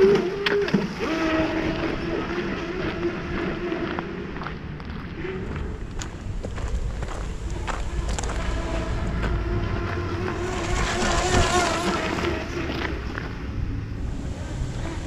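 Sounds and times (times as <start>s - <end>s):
speedboat motor whine: 0.0s - 15.0s.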